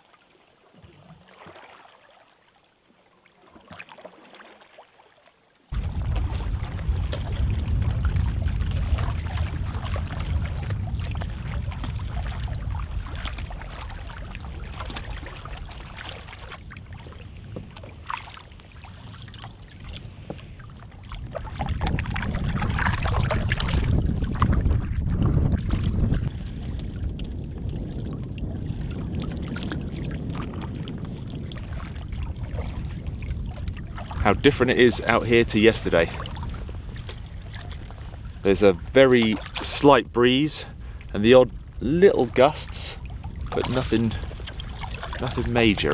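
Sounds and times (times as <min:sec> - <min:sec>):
paddle strokes in water: 0:00.0 - 0:45.9
water lapping against canoe: 0:00.0 - 0:45.9
wind rumble on microphone: 0:05.7 - 0:45.9.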